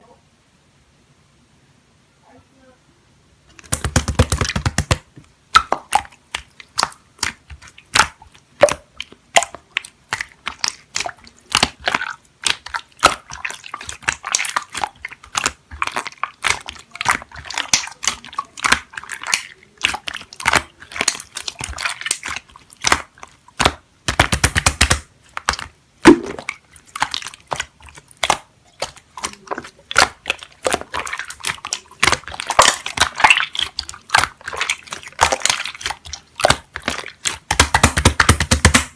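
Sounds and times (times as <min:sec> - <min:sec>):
slime squished by hand: 0:03.5 - 0:38.9.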